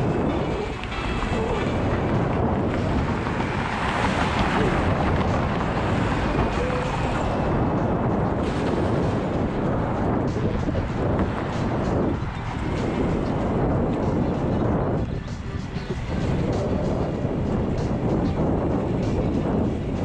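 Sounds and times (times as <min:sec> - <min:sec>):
skateboard wheels rolling on pavement: 0:00.0 - 0:20.0
wind buffeting microphone: 0:00.0 - 0:20.0.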